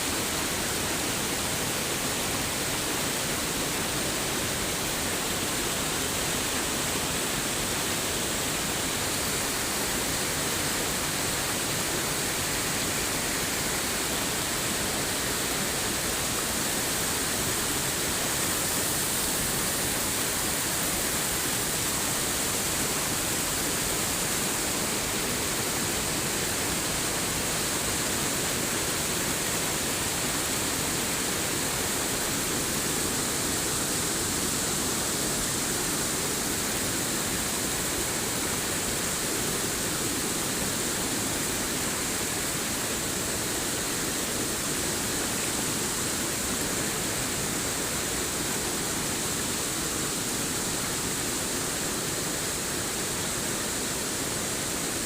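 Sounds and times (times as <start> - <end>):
rushing flowing water: 0.0 - 55.0.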